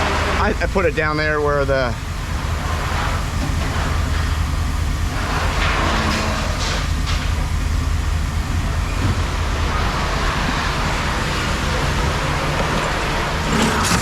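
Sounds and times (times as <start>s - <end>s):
engine running rumble: 0.0s - 14.0s.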